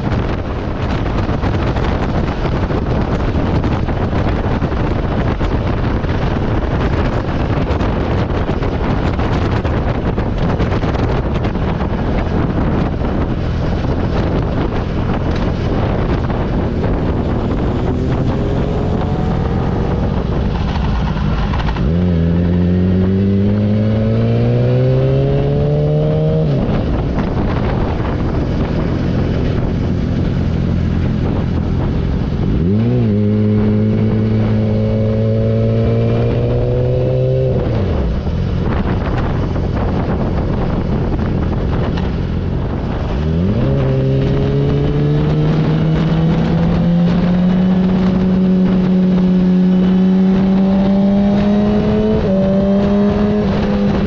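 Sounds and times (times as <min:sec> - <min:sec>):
motorcycle engine revving: 0:00.0 - 0:54.0
wind rush on microphone: 0:00.0 - 0:54.0.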